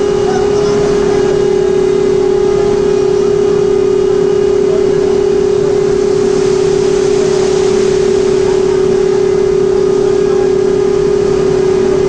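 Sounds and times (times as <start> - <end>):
rushing noise: 0.0 - 12.0
steady industrial hum: 0.0 - 12.0.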